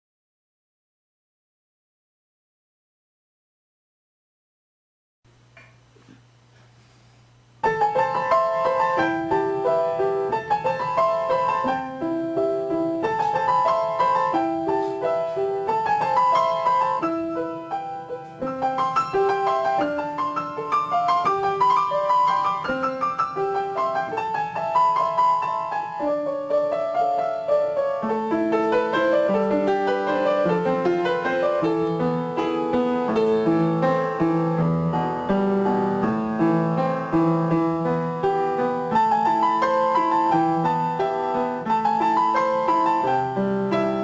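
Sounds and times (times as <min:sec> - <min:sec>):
solo piano music: 0:07.6 - 0:44.0.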